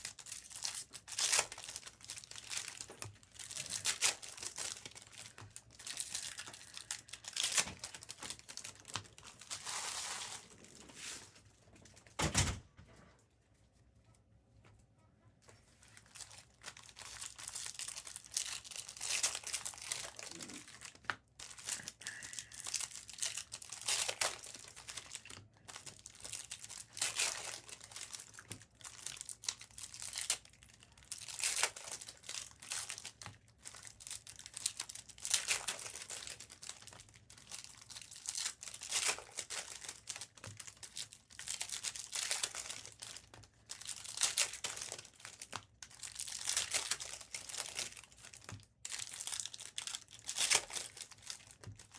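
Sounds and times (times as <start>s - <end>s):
wrappers tearing and crinkling: 0.0s - 11.4s, 15.8s - 51.9s.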